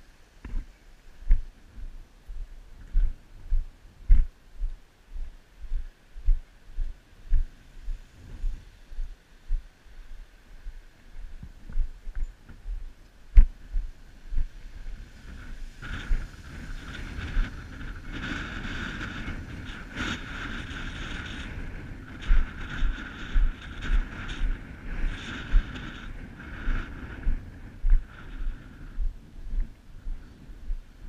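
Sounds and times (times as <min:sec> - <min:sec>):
wind on microphone: 0:00.0 - 0:31.0.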